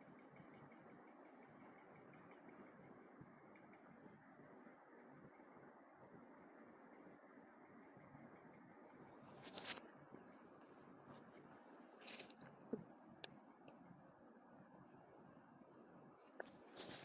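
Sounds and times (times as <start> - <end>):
low hiss: 0.0 - 17.0.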